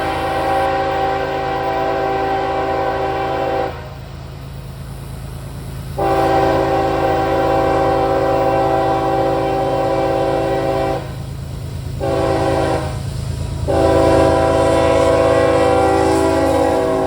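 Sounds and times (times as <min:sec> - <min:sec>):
locomotive air horn blasts: 0:00.0 - 0:04.0, 0:06.0 - 0:11.2, 0:12.0 - 0:17.0
locomotives rumbling past: 0:00.0 - 0:17.0.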